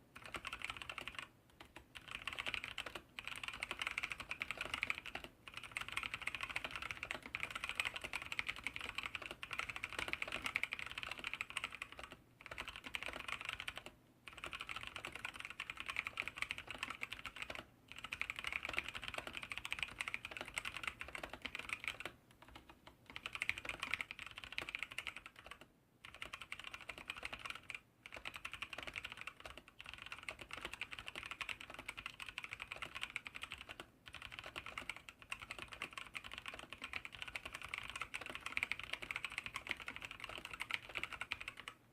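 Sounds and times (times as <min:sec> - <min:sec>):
fast typing on mechanical keyboard: 0:00.2 - 0:41.8.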